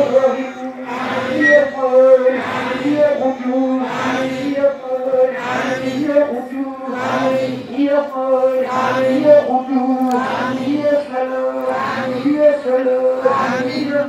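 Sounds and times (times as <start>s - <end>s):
person chanting: 0.0s - 14.0s.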